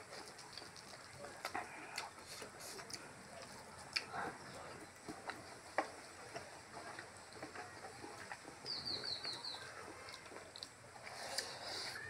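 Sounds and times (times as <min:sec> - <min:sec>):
chewing mouth clicks and smacks: 0:00.0 - 0:12.0.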